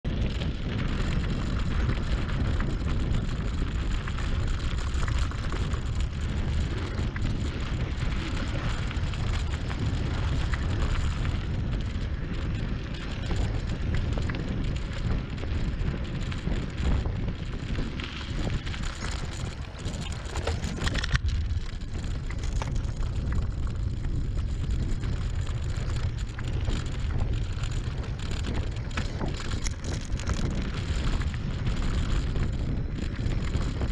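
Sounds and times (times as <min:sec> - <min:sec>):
wind buffeting microphone: 0:00.0 - 0:33.9
tyres crackling on gravel: 0:00.1 - 0:33.9.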